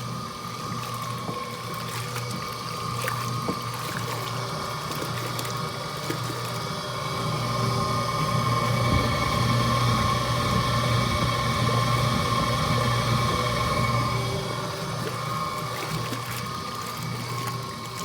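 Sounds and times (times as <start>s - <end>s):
laundry machine motor humming: 0.0s - 18.0s.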